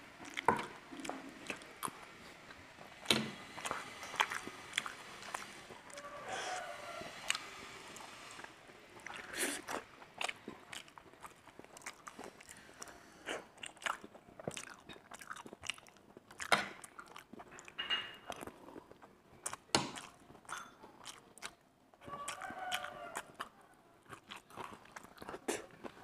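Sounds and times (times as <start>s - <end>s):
person chewing and biting food: 0.1s - 26.0s.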